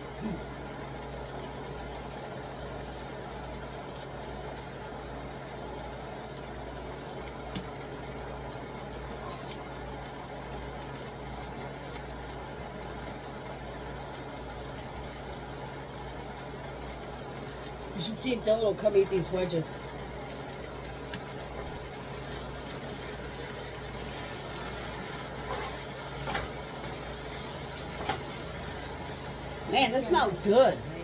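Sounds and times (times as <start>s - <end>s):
low steady hum: 0.0s - 31.0s
meat and cabbage sizzling in skillet: 0.0s - 31.0s.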